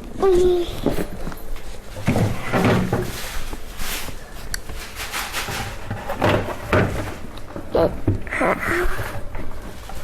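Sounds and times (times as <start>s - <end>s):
rustling and knocks of handling: 0.0s - 10.0s.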